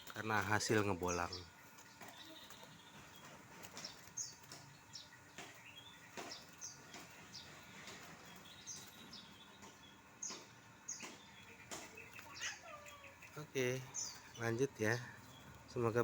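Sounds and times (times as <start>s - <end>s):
songbirds chirping faintly: 0.0s - 16.0s.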